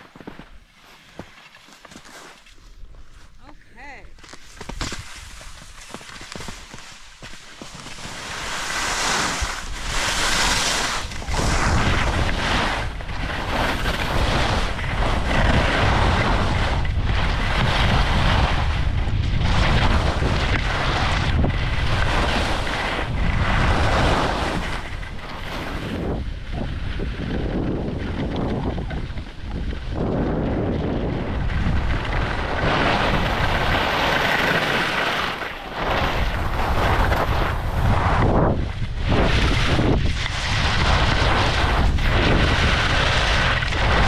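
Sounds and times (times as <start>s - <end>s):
skis scraping over snow: 0.0s - 3.5s, 4.1s - 44.0s
wind buffeting microphone: 8.3s - 44.0s.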